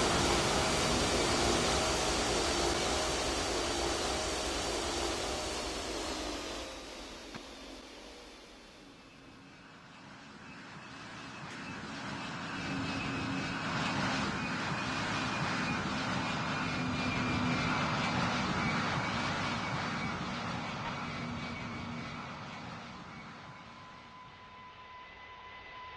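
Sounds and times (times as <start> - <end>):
airplane engines whining: 0.0 - 25.9.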